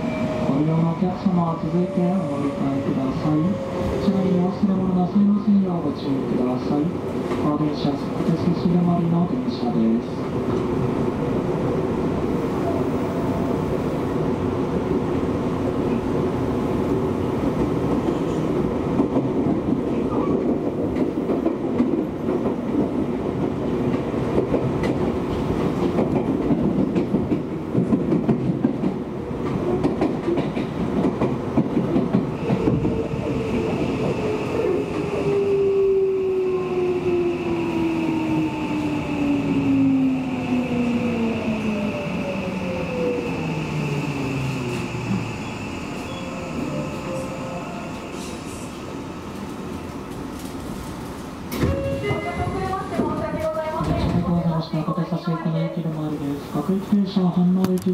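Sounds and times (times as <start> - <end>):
train rumble: 0.0 - 57.9.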